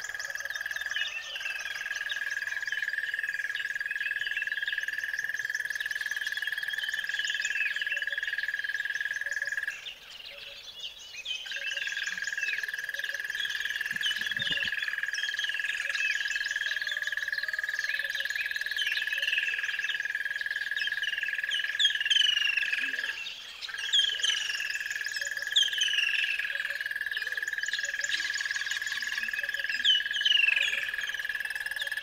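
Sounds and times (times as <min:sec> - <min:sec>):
birds chirping and singing: 0:00.0 - 0:32.0.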